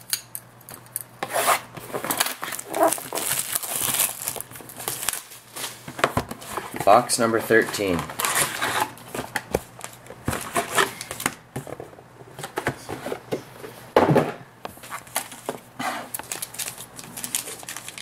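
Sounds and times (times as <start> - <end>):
card packs rustling: 1.8 - 13.3, 14.7 - 18.0.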